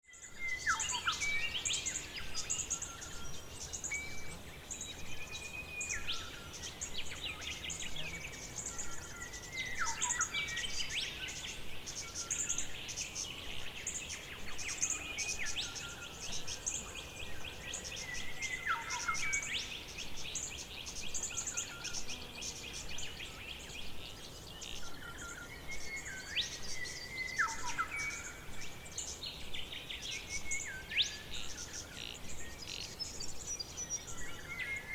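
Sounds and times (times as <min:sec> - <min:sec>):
birds singing: 0:00.0 - 0:34.9.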